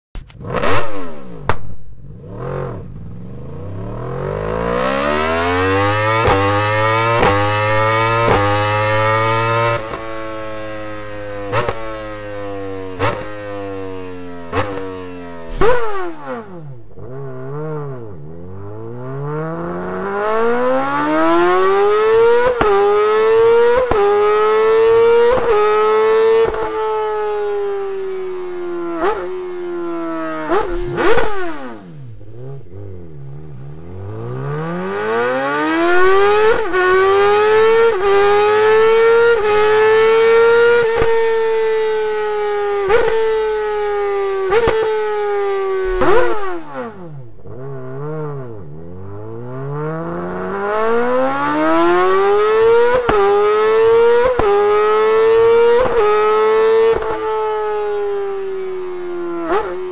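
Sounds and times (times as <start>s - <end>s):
motorcycle engine revving: 0.2s - 59.9s.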